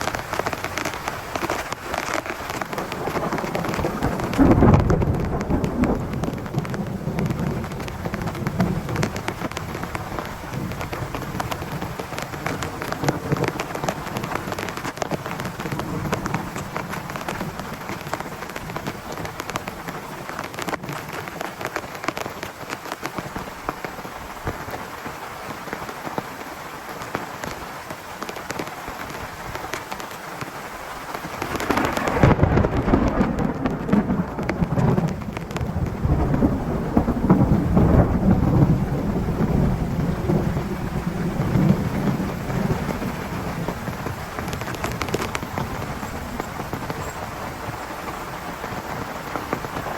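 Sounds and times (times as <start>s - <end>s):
thunder rumbling: 0.0s - 21.3s, 31.2s - 49.9s
heavy rain on a tent: 0.0s - 49.9s.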